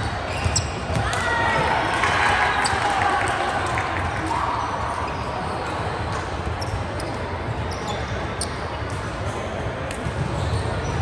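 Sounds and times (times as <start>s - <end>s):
faint echoing voices: 0.0s - 11.0s.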